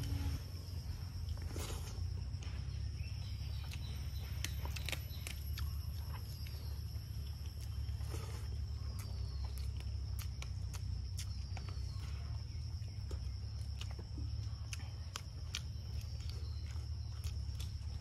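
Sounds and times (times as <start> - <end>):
wet chewing and lip-smacking: 1.2 - 18.0.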